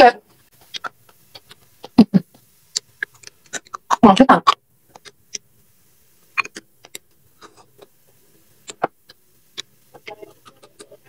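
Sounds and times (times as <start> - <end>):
chewing and mouth sounds: 0.5 - 5.4, 6.4 - 8.0, 8.6 - 11.0.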